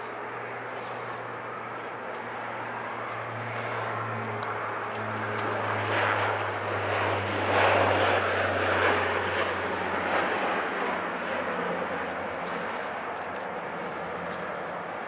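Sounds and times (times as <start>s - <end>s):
jet engines at taxi power: 0.0s - 15.0s.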